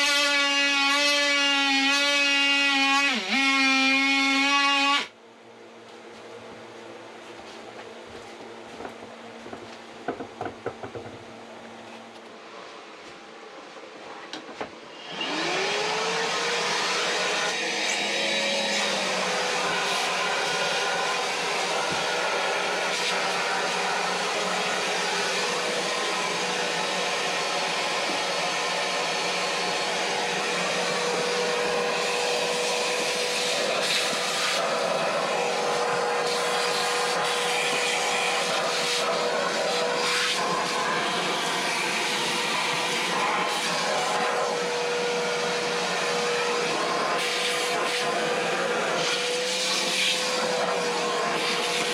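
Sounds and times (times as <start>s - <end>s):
electric power tool whining: 0.0s - 5.2s, 14.9s - 51.9s.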